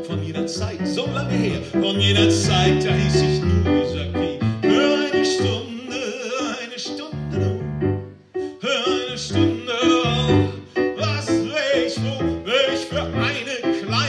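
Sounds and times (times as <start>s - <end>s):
man singing: 0.0s - 7.8s, 8.4s - 14.0s
piano playing chords: 0.0s - 14.0s.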